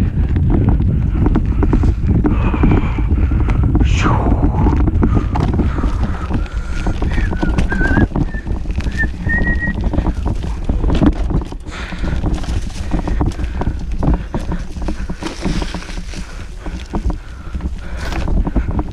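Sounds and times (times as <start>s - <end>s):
bike knocks and rattles: 0.0s - 18.9s
wind buffeting microphone: 0.0s - 18.9s.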